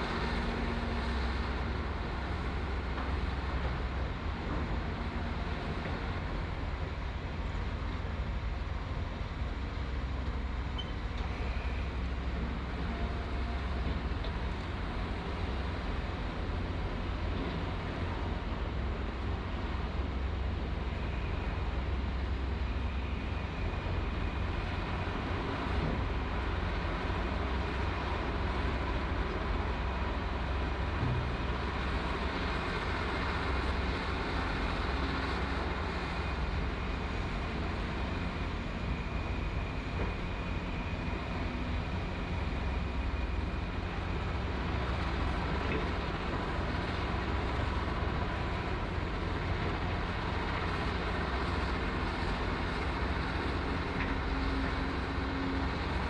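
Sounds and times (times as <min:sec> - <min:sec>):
diesel engine low rumble: 0:00.0 - 0:56.0
faint steady whine: 0:00.0 - 0:56.0.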